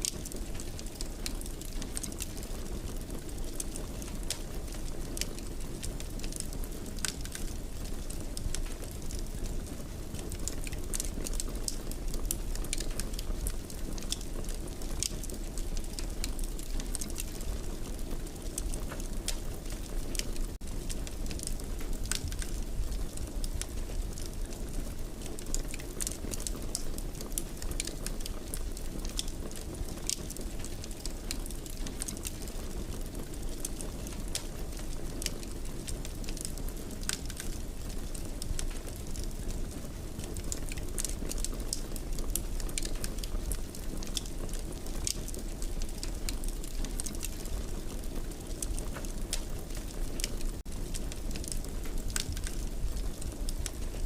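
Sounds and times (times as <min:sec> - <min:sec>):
fire pops and snaps: 0:00.0 - 0:54.0
low rush of burning fire: 0:00.0 - 0:54.0.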